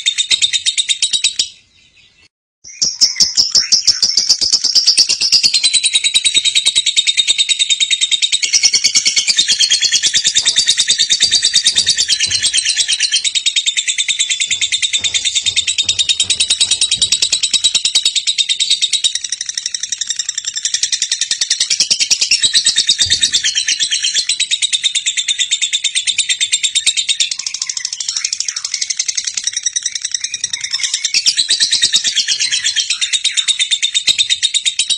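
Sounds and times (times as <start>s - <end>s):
lovebird chattering song: 2.7s - 34.9s.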